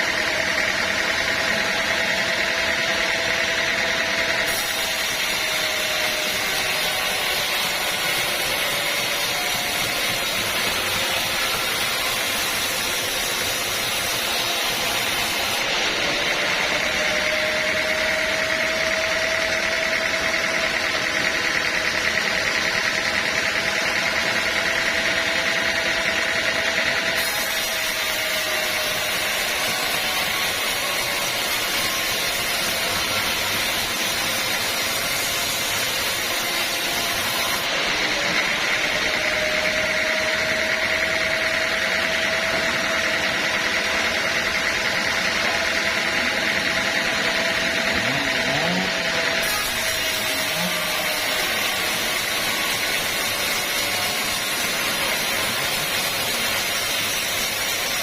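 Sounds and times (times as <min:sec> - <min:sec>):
band sawmill mechanical whine: 0:00.0 - 0:58.0.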